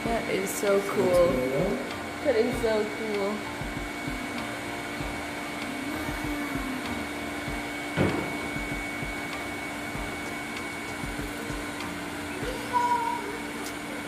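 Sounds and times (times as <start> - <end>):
constant hum: 0.0 - 14.0
fan whirring: 0.0 - 14.0.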